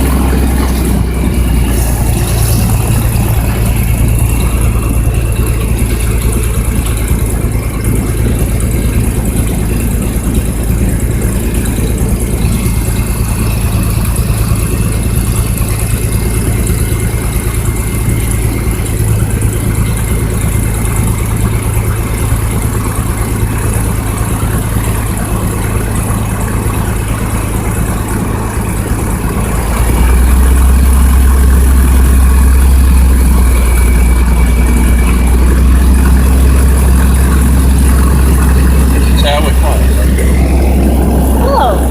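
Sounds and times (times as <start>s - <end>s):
propeller airplane engine from cabin: 0.0s - 41.9s.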